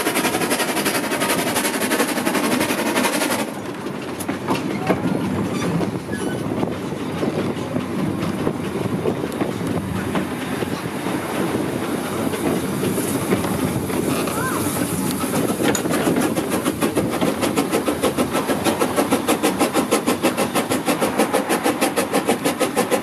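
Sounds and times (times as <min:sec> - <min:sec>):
rapid beating steam rush: 0:00.0 - 0:23.0
train rumble: 0:00.0 - 0:23.0
wheels clicking over rail joints: 0:00.0 - 0:23.0.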